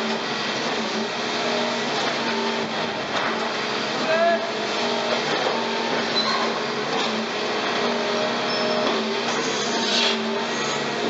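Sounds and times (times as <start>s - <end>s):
excavator engine and hydraulics: 0.0s - 11.0s.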